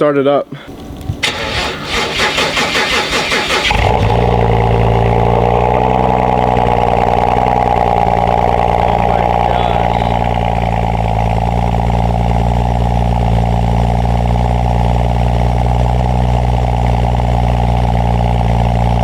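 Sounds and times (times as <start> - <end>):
car engine idling: 0.8 - 19.0.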